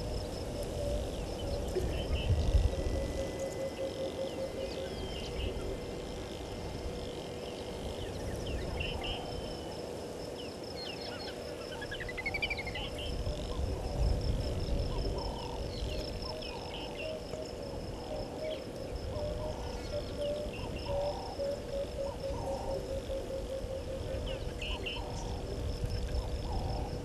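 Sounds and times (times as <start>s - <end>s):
birds chirping: 0.0s - 13.7s, 18.0s - 27.0s
insect trilling: 0.0s - 27.0s
low steady hum: 0.0s - 27.0s.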